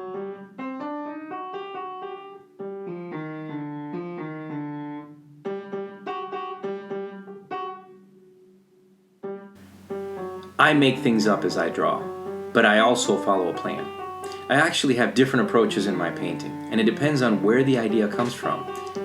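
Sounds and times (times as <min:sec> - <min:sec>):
calm piano music: 0:00.0 - 0:19.0.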